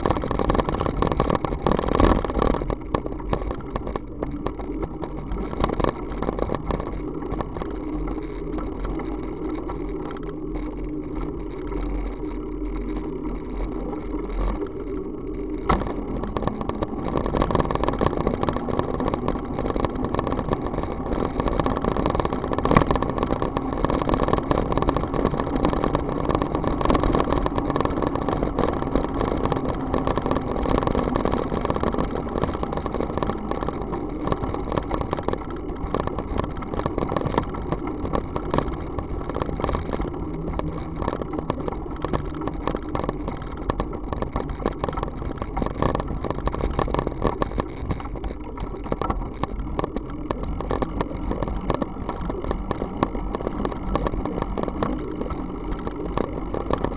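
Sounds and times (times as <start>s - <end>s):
small rattles: 0.0s - 56.9s
wind and road noise: 0.0s - 56.9s.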